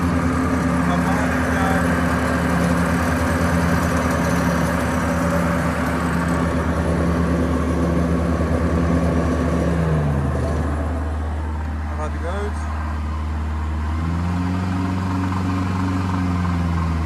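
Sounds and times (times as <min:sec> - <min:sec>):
mower diesel engine running: 0:00.0 - 0:17.0.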